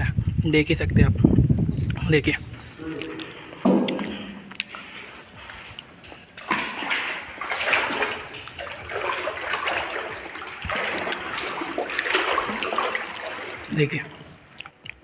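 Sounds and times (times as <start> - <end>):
person wading through water: 2.4 - 15.0.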